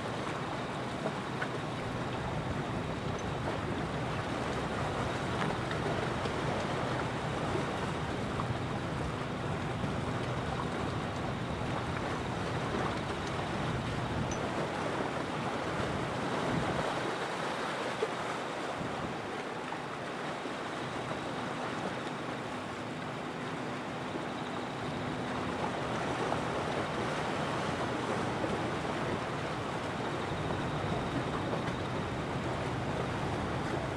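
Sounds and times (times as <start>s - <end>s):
seashore rushing ambience: 0.0s - 33.9s.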